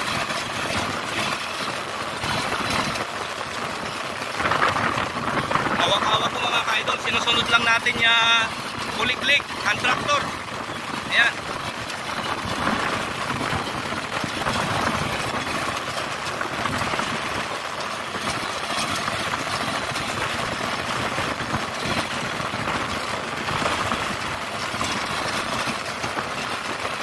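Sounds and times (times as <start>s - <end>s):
diesel engine running under load: 0.0s - 27.0s
tractor churning through mud: 0.0s - 27.0s.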